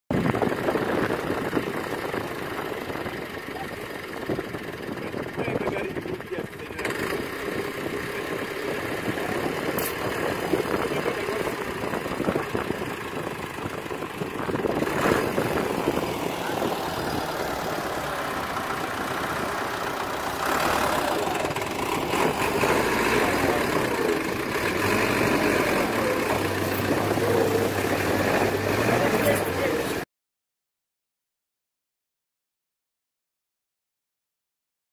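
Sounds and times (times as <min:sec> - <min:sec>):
tractor engine under load: 0:00.1 - 0:30.0.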